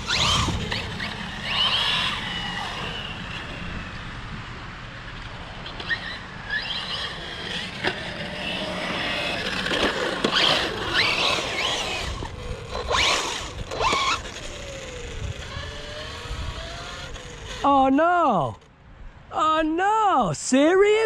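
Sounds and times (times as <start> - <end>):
rc car motor whine: 0.0 - 17.9.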